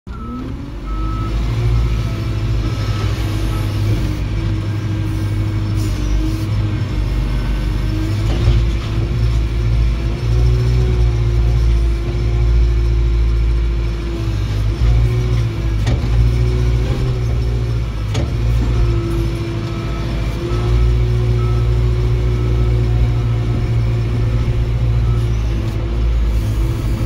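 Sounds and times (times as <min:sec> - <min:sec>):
diesel engine running: 0:00.1 - 0:27.0.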